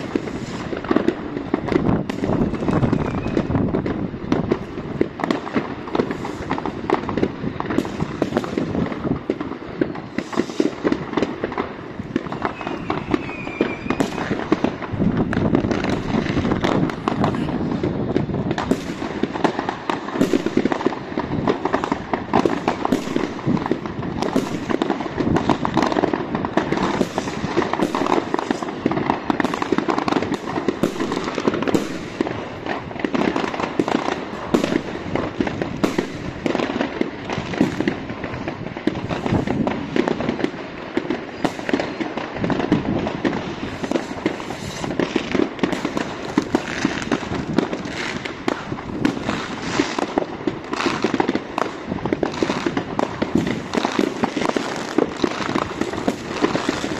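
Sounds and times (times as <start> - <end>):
firecrackers banging and crackling: 0.0 - 56.9
rockets bursting: 0.0 - 56.9.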